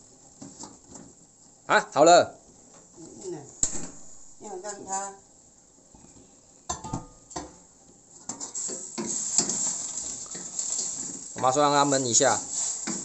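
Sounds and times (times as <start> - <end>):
food sizzling: 0.0 - 13.0.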